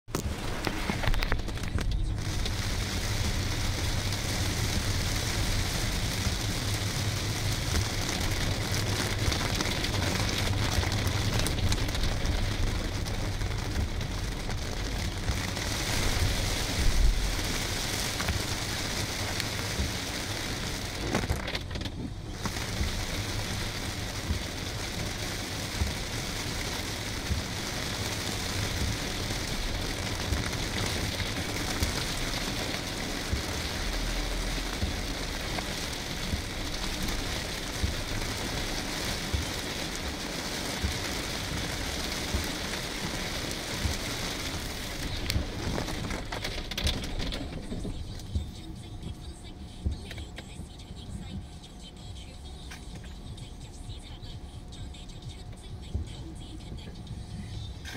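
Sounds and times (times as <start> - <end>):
heavy rain on car roof: 0.1 - 57.9
low car rumble: 0.2 - 50.3.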